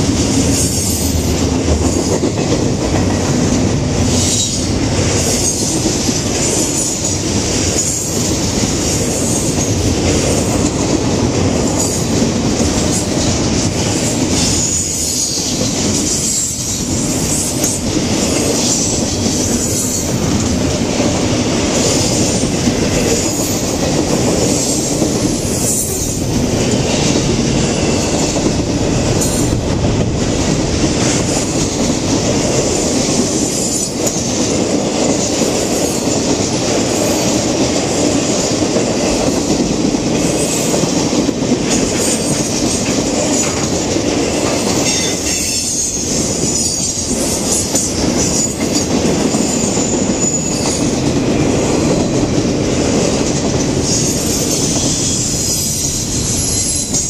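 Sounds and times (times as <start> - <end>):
steel wheels on rails: 0.0 - 57.0.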